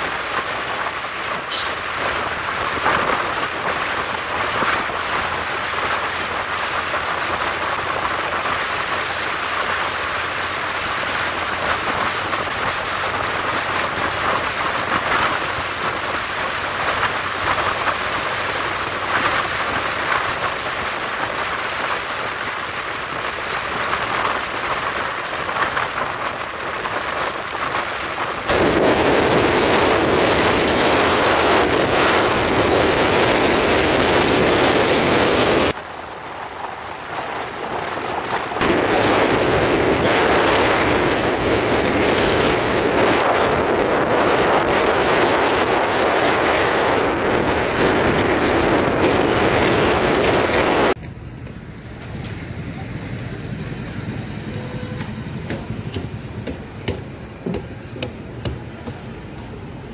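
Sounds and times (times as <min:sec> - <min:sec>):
road and traffic noise: 0:00.0 - 0:59.9
wind rushing over microphone: 0:00.0 - 0:59.9.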